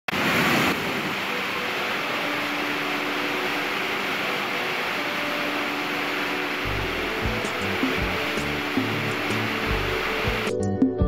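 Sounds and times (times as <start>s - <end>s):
waterfall roaring: 0.1s - 10.5s.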